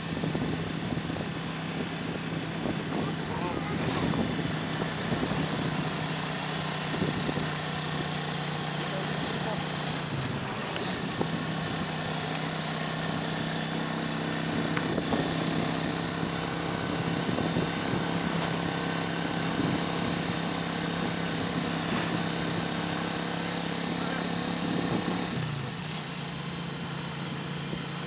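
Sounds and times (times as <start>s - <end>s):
rushing wind: 0.0s - 8.2s, 10.0s - 25.9s
road noise: 0.0s - 28.0s
small motorcycle engine running: 0.0s - 28.0s.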